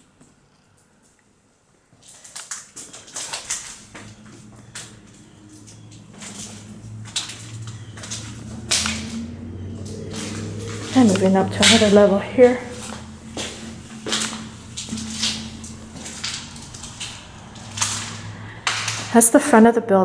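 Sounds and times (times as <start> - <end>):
footsteps crunching on broken glass: 1.9 - 19.1
low steady hum: 3.0 - 20.0.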